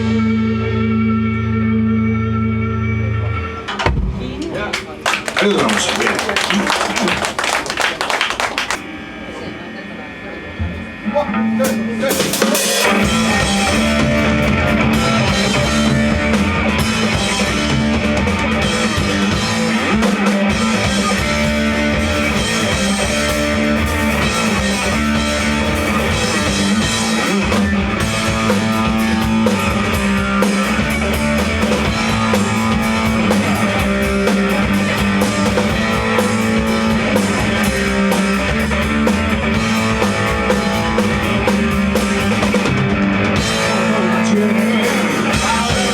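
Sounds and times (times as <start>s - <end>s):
rock band playing live: 0.0s - 8.8s, 10.8s - 45.9s.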